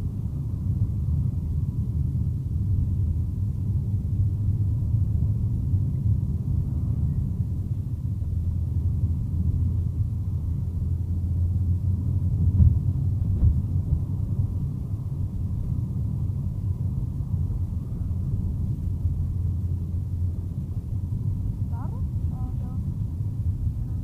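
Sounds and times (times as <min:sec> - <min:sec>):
car driving rumble from inside: 0:00.0 - 0:24.0.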